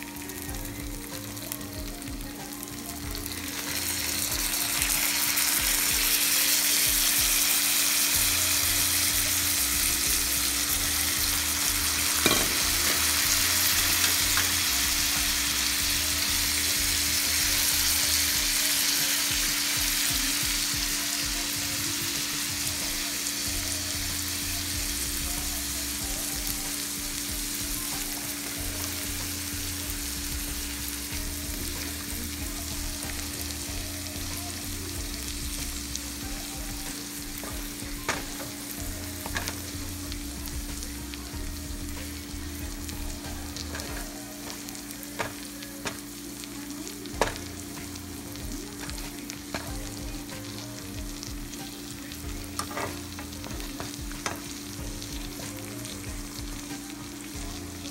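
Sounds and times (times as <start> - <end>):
fish and shrimp sizzling: 0.0 - 57.9.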